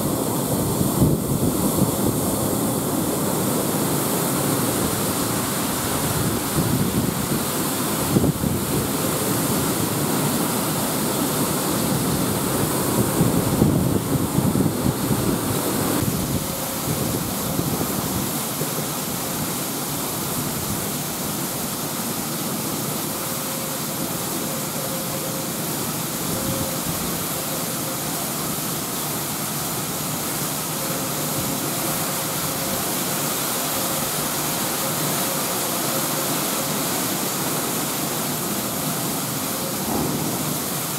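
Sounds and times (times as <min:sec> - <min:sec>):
grain pouring hiss: 0:00.0 - 0:40.9.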